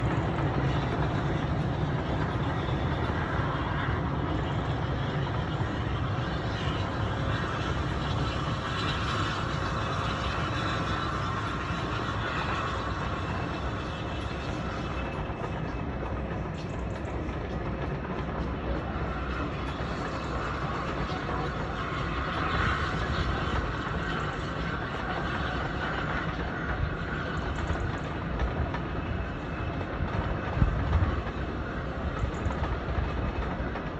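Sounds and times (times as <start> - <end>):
steam train rumbling on rails: 0.0 - 33.9.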